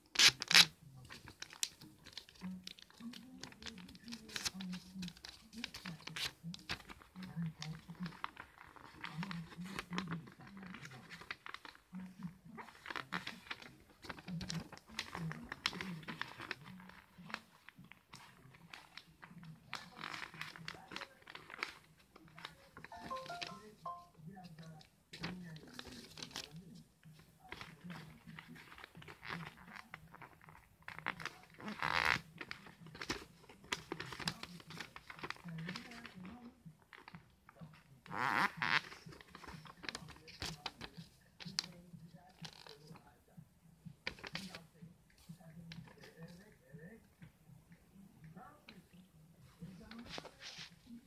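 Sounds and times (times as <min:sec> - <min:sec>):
material crinkling and scratching: 0:00.0 - 0:51.0.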